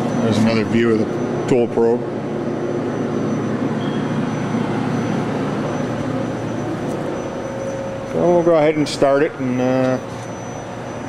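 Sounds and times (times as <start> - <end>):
faint high whine: 0.0 - 11.0
machinery humming and whirring: 0.0 - 11.0.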